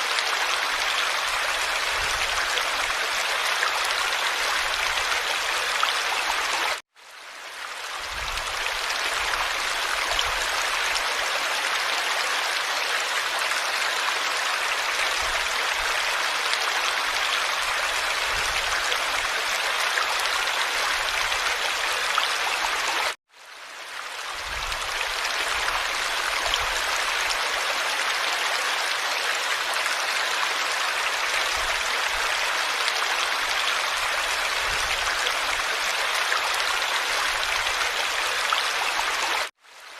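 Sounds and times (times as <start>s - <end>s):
stream water rushing: 0.0s - 6.8s, 7.4s - 39.5s.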